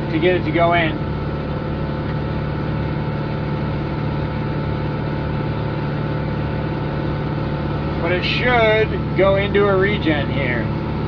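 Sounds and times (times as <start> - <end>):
tractor diesel engine at high revs: 0.0 - 11.0.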